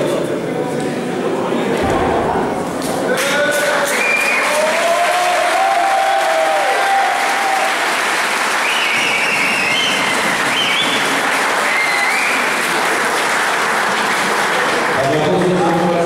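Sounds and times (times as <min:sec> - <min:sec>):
audience applauding: 0:03.1 - 0:16.0.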